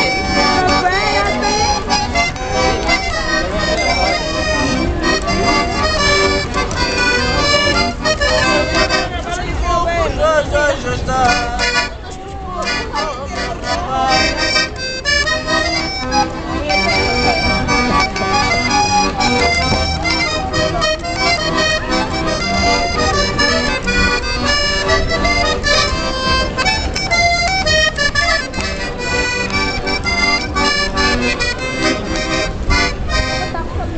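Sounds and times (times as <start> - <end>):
piano accordion playing lively tune: 0.0 - 33.9.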